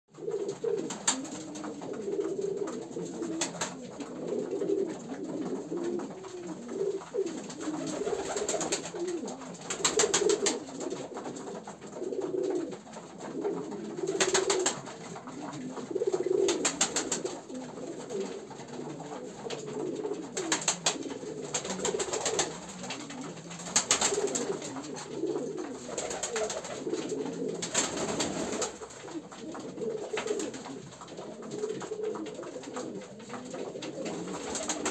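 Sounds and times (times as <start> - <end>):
pigeons cooing: 0.1 - 34.9
wings flapping: 0.2 - 34.9.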